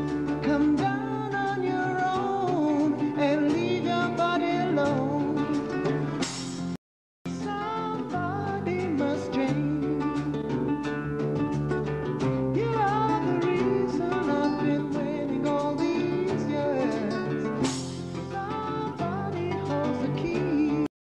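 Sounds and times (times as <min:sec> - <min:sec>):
person singing: 0:00.0 - 0:06.2, 0:07.3 - 0:11.3, 0:12.1 - 0:20.9
acoustic guitar: 0:00.0 - 0:20.9.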